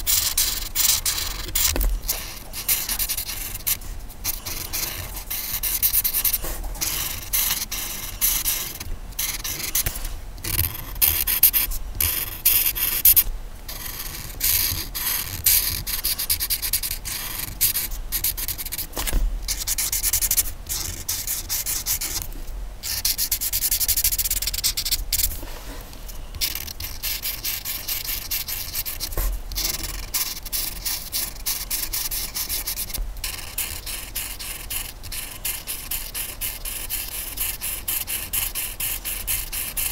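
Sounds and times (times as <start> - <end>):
colouring tool rubbing on paper: 0.0 - 22.2, 22.8 - 39.9.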